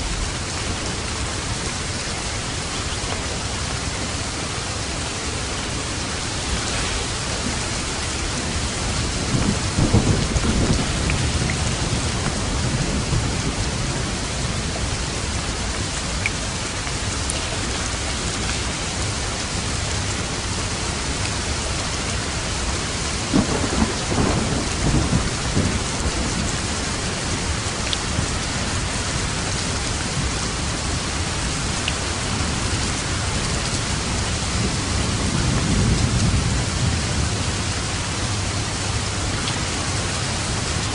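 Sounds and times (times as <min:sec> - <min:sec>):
low thunder rumbling: 0:00.0 - 0:15.9, 0:17.0 - 0:40.8
heavy rain falling: 0:00.0 - 0:40.9.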